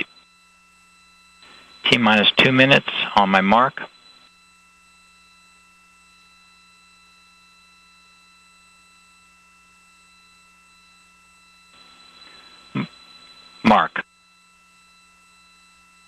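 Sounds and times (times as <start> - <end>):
faint electrical hum with tones: 0.0 - 16.0.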